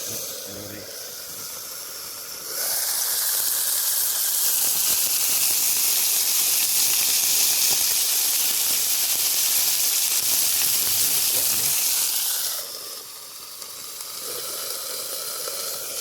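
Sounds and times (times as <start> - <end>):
sausages sizzling in pan: 0.0 - 16.0.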